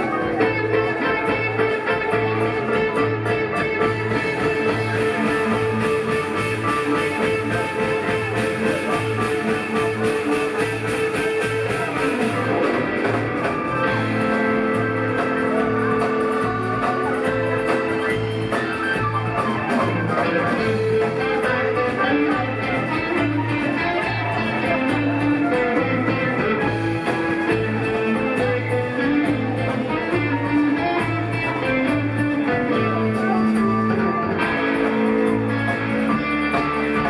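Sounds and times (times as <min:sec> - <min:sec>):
live rock band jamming: 0:00.0 - 0:37.0.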